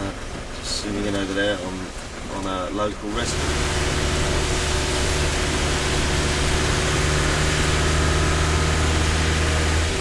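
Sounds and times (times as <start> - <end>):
rain: 0.0 - 10.0
vehicle engine running: 0.0 - 10.0
tyres hissing on wet road: 1.0 - 10.0.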